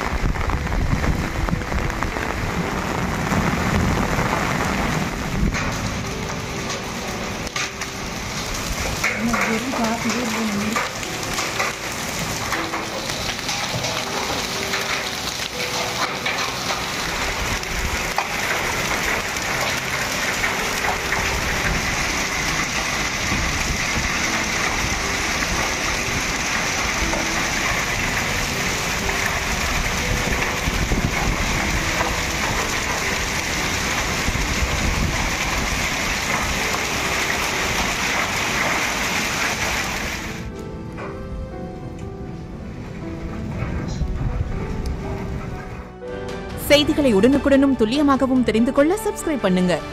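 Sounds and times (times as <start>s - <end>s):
hailstones ticking: 0.0s - 40.6s
heavy rain on concrete: 0.0s - 41.0s, 41.8s - 49.9s.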